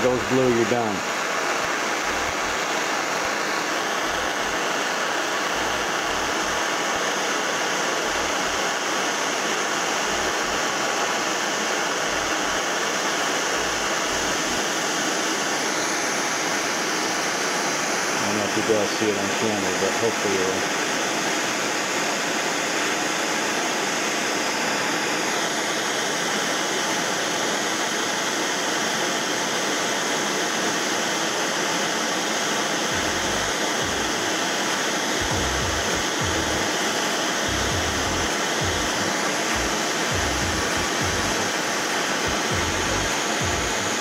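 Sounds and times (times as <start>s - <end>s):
gas torch flame hissing: 0.0s - 29.8s, 30.4s - 44.0s.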